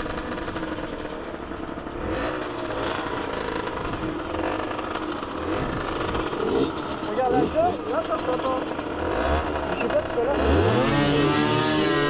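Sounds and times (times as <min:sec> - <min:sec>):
motorcycle engine idling: 0:00.0 - 0:11.7.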